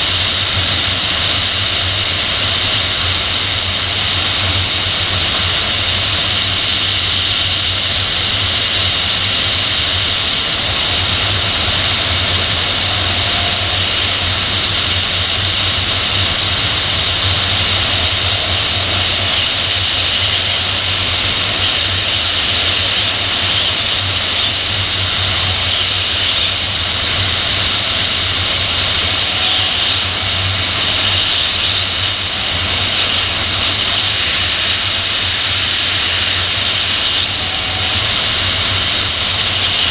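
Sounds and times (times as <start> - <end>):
wind noise hiss: 0.0 - 39.9.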